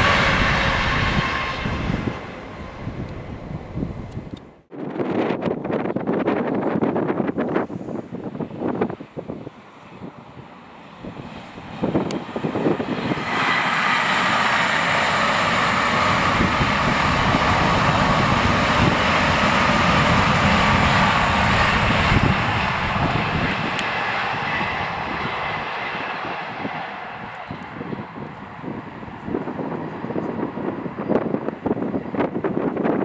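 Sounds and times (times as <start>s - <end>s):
train passing at speed: 0.0s - 33.0s
wind buffeting microphone: 0.0s - 33.0s.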